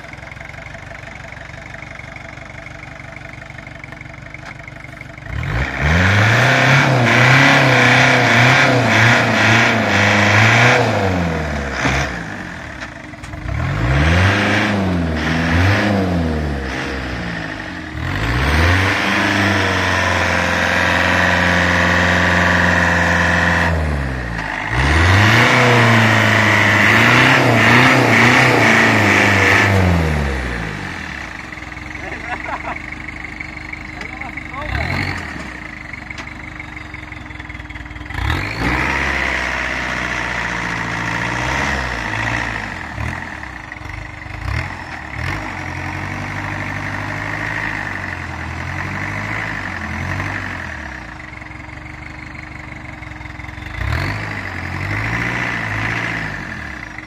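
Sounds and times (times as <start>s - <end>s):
tractor diesel engine revving: 0.0s - 57.0s.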